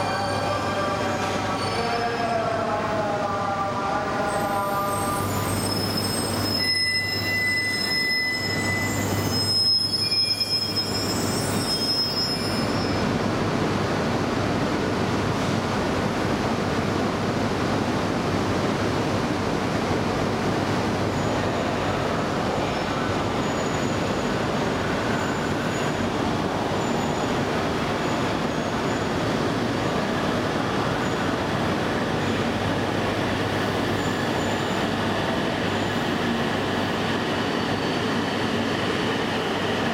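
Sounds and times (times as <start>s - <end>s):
train rushing and rumbling: 0.0s - 39.9s.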